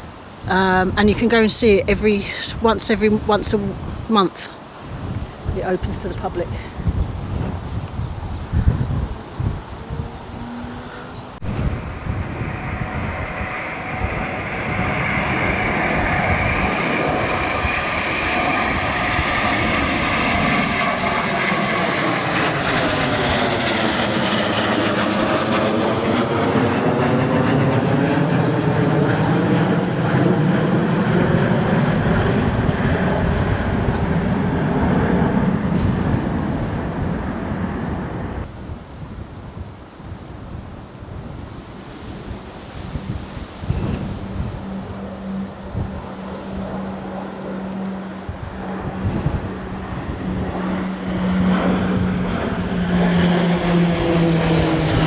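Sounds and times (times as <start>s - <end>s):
aircraft flying low overhead: 0.0s - 55.0s.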